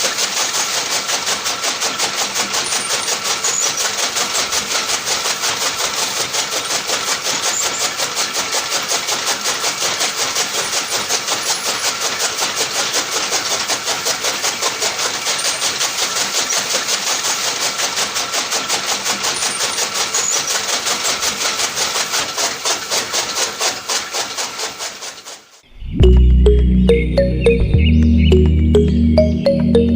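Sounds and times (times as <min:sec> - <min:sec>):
small motor clattering: 0:00.0 - 0:25.6.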